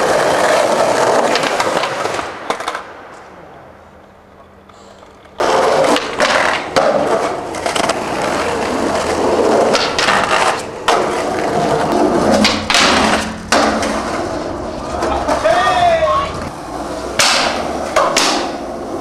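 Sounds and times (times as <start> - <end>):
skateboard clacks and scrapes: 0.0 - 2.9, 4.7 - 19.0
skateboard wheels rolling on pavement: 0.0 - 19.0.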